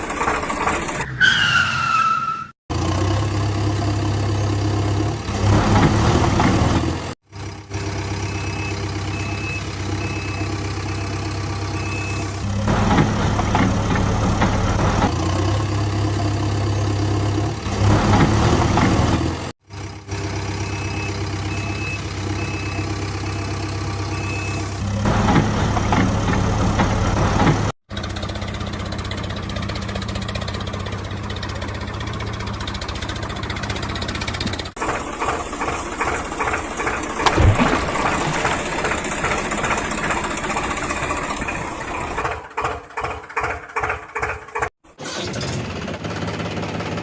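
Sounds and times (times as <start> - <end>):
vehicle engine running: 0.0 - 1.1, 2.7 - 44.7, 45.4 - 47.0.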